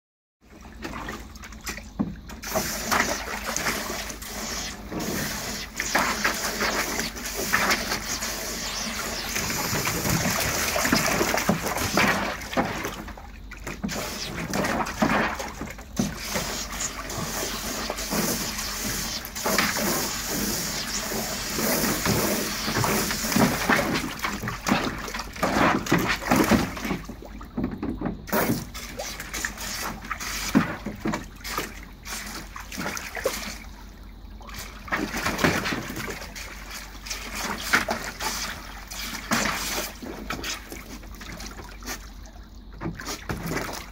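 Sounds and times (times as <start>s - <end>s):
dogs splashing in water: 0.5s - 43.9s.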